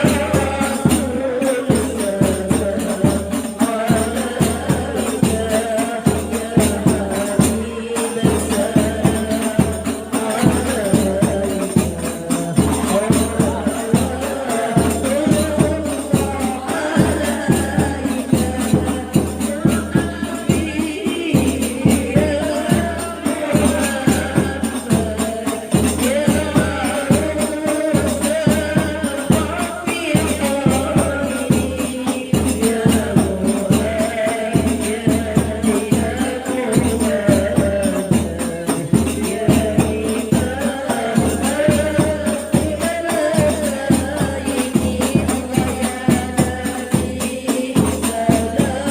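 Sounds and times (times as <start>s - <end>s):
frame drums beating: 0.0s - 48.9s
women singing together: 0.0s - 48.9s.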